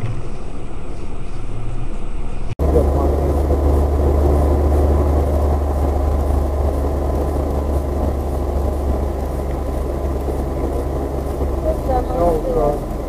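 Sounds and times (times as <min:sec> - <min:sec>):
road noise: 0:00.0 - 0:13.0
car engine droning: 0:01.7 - 0:13.0.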